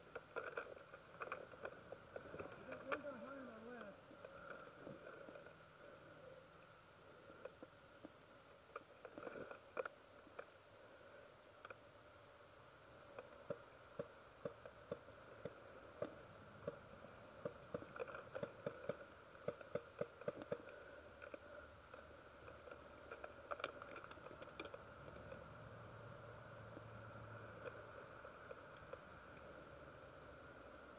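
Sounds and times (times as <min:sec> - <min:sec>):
faint irregular clicks: 0:00.0 - 0:30.9
faint steady hum: 0:00.0 - 0:30.9.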